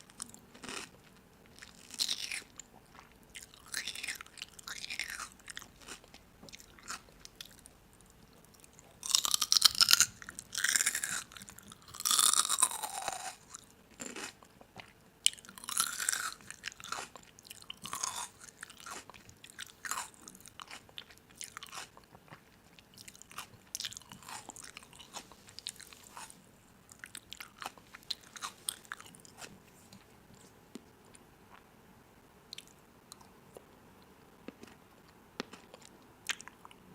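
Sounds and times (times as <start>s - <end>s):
person chewing crunchy food: 0.0s - 31.6s, 34.4s - 36.8s.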